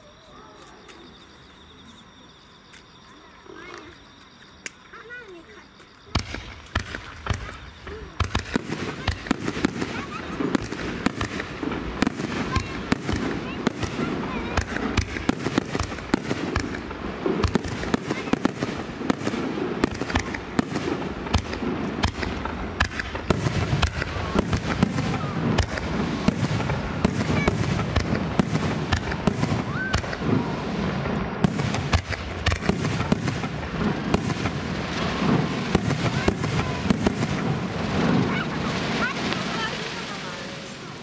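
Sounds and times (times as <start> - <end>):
fireworks cracks and bangs: 4.6 - 41.0.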